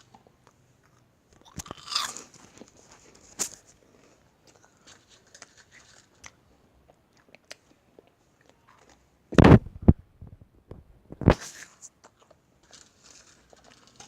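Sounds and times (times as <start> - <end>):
meringue cookies crunching: 0.0 - 9.1, 11.6 - 14.0.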